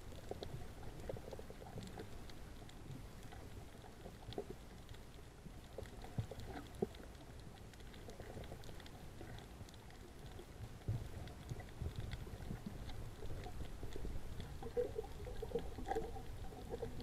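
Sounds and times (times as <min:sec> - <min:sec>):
small clicks: 0:00.0 - 0:17.0
underwater rumble of moving water: 0:00.0 - 0:17.0.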